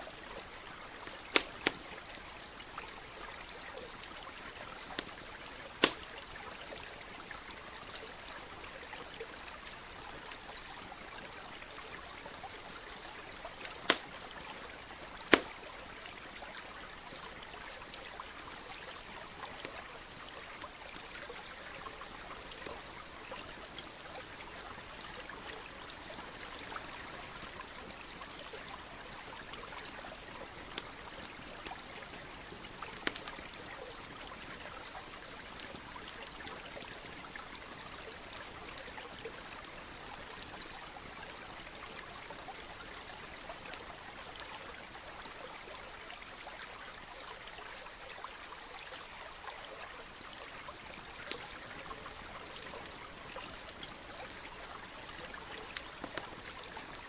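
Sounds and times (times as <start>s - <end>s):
campfire crackling and popping: 0.0s - 57.0s
stream flowing: 0.0s - 57.0s.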